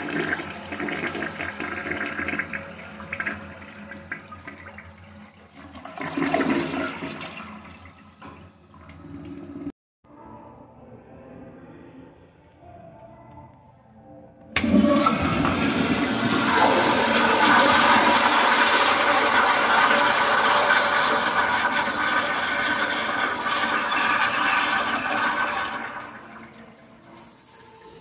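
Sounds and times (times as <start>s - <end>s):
toilet flushing: 0.0s - 9.7s, 14.6s - 28.0s.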